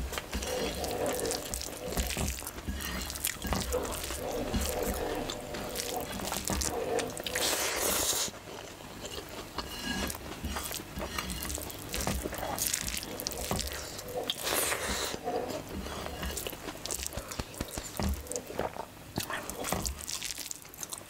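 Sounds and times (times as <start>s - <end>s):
fingers squelching in rice: 0.0s - 8.4s, 9.2s - 18.5s
wet chewing and smacking: 0.0s - 21.0s.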